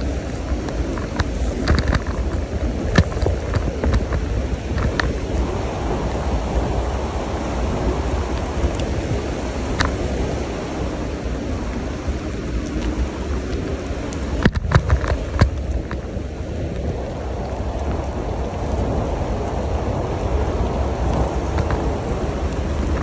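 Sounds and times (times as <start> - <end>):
bicycle tyres hissing on wet path: 0.0 - 23.0.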